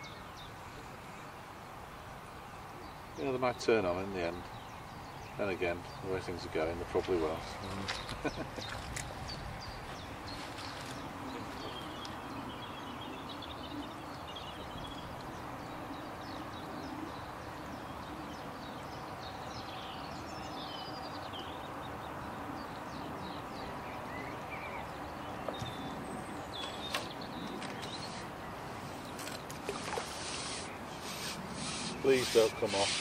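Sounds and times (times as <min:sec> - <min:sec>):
outdoor background noise: 0:00.0 - 0:33.0
small birds chirping and trilling: 0:00.0 - 0:33.0.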